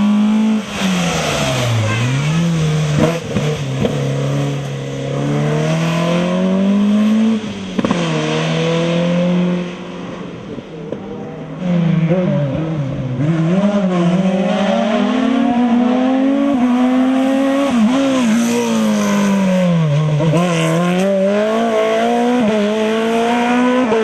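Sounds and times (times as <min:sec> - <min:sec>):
race car engine revving: 0:00.0 - 0:09.9, 0:11.6 - 0:24.0.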